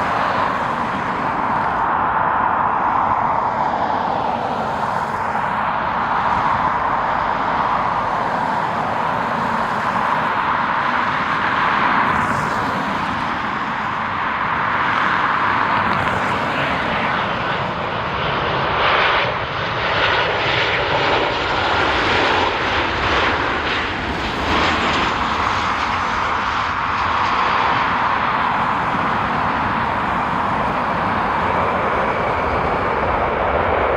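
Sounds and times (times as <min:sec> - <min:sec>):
jet airliner engines running: 0:00.0 - 0:33.9.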